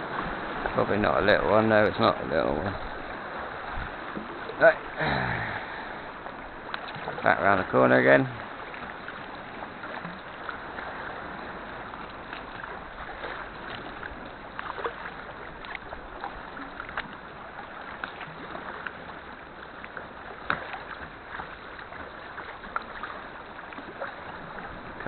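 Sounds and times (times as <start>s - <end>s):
paddle splashes and drips: 0.0s - 25.0s
water washing: 0.0s - 25.0s.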